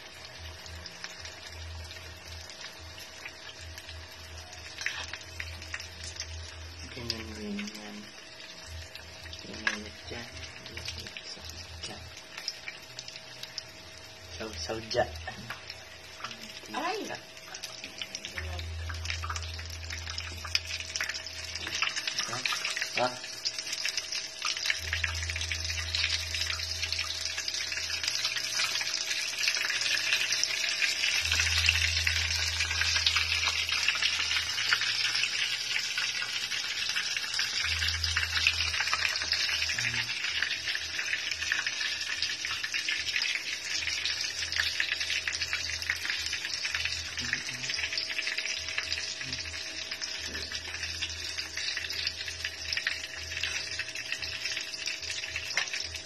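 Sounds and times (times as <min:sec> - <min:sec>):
fritters sizzling in hot oil: 0:00.0 - 0:56.0.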